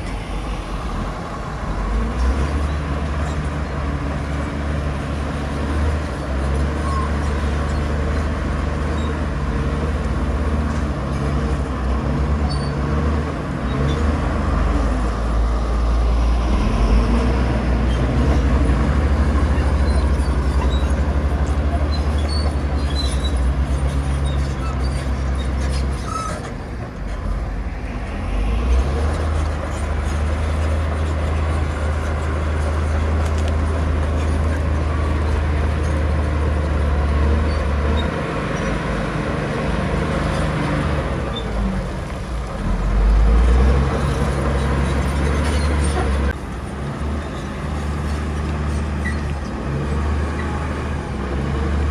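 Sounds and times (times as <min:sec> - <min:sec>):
bulldozer diesel engine drone: 0:00.0 - 0:51.9.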